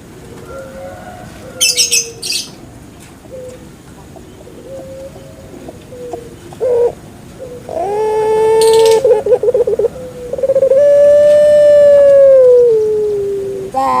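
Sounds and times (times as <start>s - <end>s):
dove cooing: 0.0s - 2.6s, 3.2s - 14.0s.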